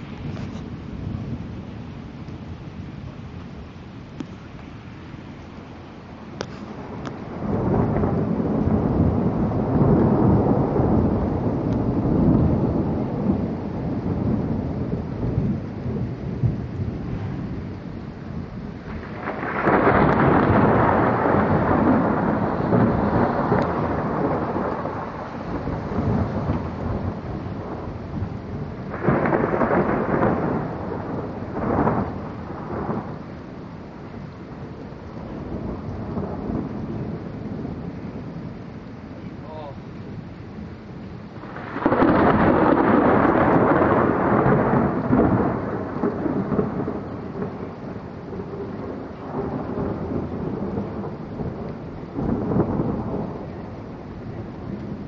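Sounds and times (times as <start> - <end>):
rain falling: 0.0 - 55.0
thunder rumbling: 0.0 - 55.0.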